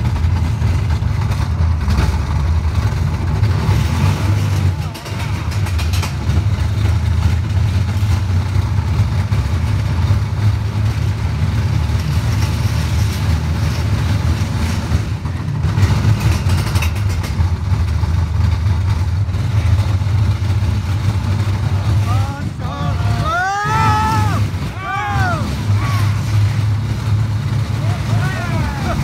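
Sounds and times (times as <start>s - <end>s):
roller coaster rumbling on track: 0.0s - 29.0s.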